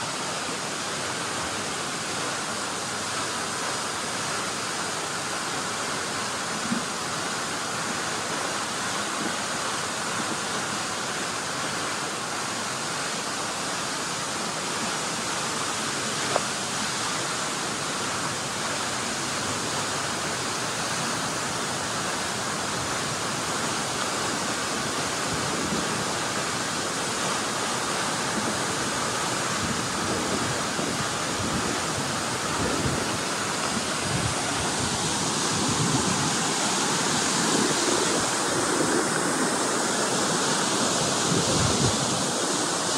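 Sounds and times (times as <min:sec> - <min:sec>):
cascading water rushing: 0:00.0 - 0:42.9.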